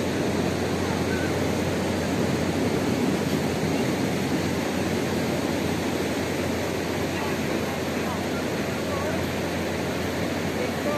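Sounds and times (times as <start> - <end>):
ocean surf breaking on beach: 0.0 - 10.9.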